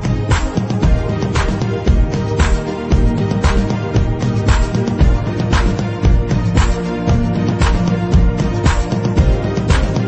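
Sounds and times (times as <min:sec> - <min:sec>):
music with steady drum beat: 0:00.0 - 0:10.0.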